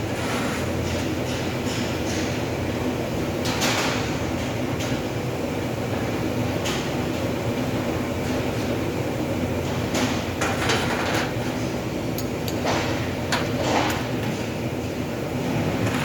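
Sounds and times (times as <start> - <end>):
workshop machine hum: 0.0 - 16.0.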